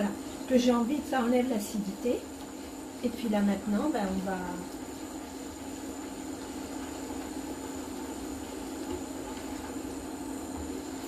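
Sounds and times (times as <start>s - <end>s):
induction hob humming: 0.0s - 11.0s
sauce simmering: 0.1s - 11.0s.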